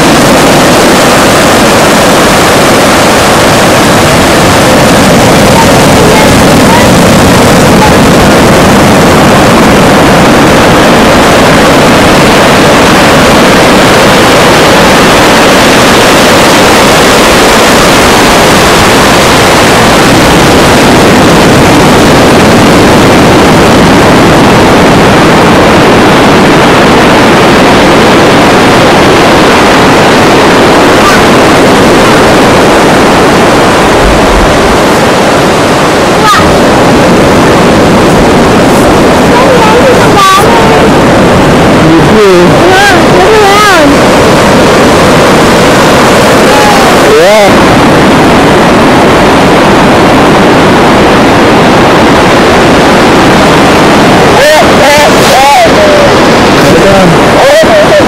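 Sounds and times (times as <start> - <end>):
ocean surf rushing: 0.0 - 58.0
wind buffeting microphone: 0.0 - 58.0.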